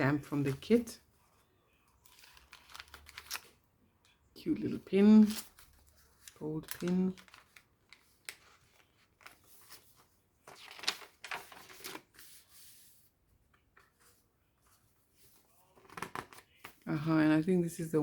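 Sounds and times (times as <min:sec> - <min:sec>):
paper rustling: 0:00.4 - 0:03.6, 0:04.6 - 0:16.9.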